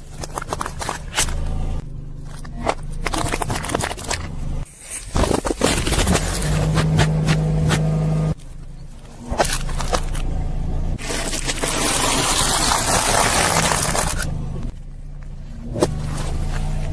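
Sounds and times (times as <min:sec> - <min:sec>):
low steady rumble: 0:00.0 - 0:04.7, 0:05.5 - 0:16.9
tyre crushing objects: 0:00.0 - 0:10.4, 0:11.0 - 0:14.7.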